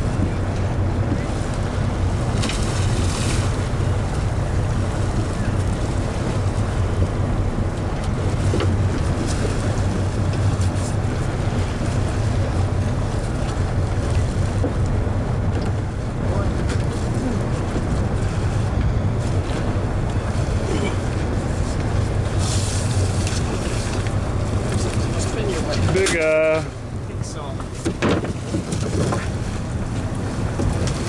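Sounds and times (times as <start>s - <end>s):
boat engine humming: 0.0s - 31.0s
water rushing along hull: 0.0s - 31.0s
wind buffeting microphone: 0.0s - 31.0s.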